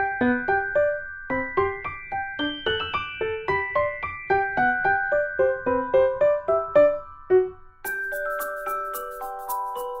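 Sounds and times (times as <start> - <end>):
light keyboard melody: 0.0 - 10.0.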